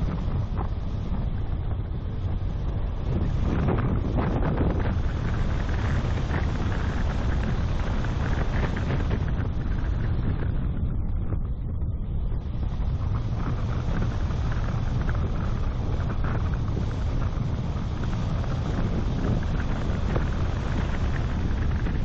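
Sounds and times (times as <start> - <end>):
car rumbling on rough road: 0.0 - 22.0
wind buffeting microphone: 0.0 - 22.0.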